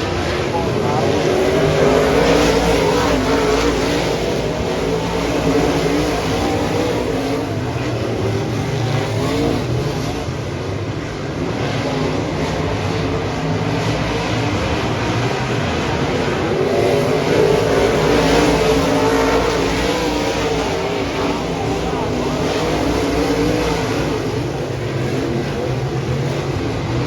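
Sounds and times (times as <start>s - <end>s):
race car engines: 0.0s - 27.0s.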